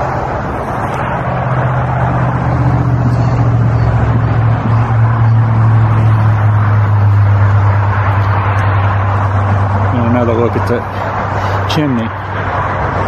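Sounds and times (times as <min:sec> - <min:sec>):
vehicle engine drone: 0:00.0 - 0:13.0.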